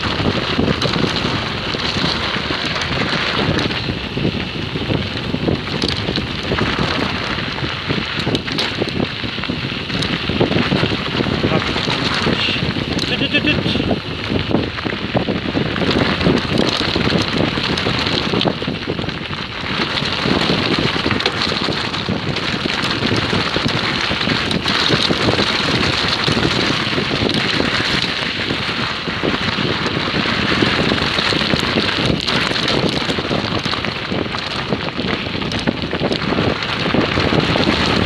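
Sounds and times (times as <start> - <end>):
bike rattling: 0.0 - 38.0
bike tyres crunching over stones: 0.0 - 38.0
wind on microphone: 0.0 - 38.0.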